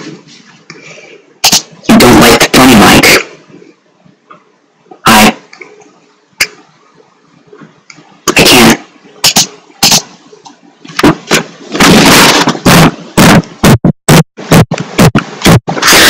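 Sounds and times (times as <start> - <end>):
distorted microphone noise blasts: 0.0 - 16.0.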